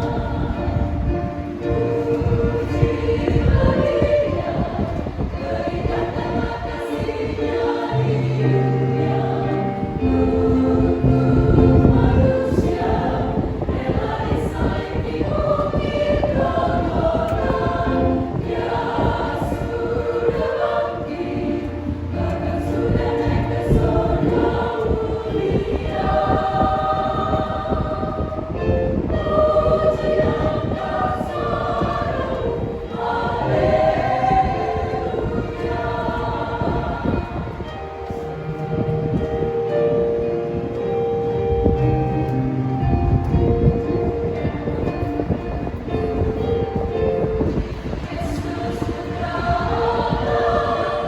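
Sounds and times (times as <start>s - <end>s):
church choir singing a hymn: 0.0s - 51.0s.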